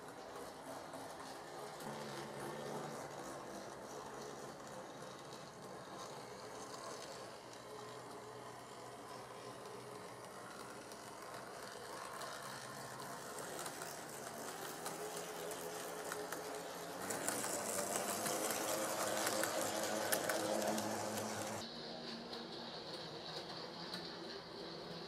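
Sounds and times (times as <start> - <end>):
model train motor whirring: 0.0 - 25.0.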